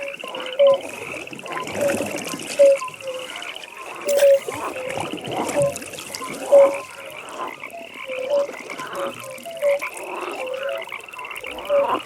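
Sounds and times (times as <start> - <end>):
frogs croaking: 0.0 - 12.0.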